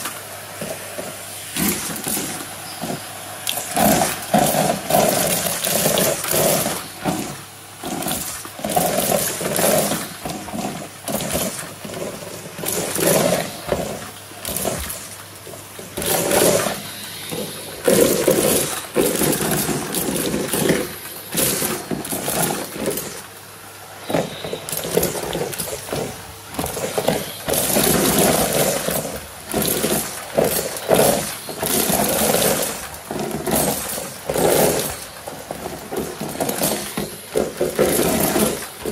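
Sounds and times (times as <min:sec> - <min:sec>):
vacuum cleaner motor hum: 0:00.0 - 0:38.9
vacuum floor tool scraping and sucking: 0:00.0 - 0:38.9.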